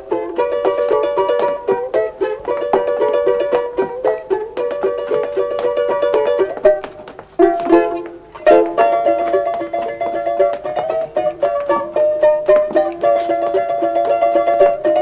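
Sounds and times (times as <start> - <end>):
plucked string instrument tune: 0.0 - 15.0.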